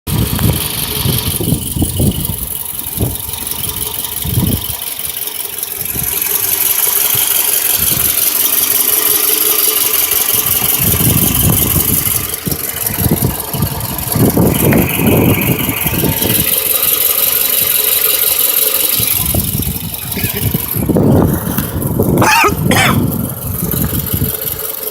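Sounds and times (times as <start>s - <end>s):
car engine idling unevenly: 0.1s - 24.9s.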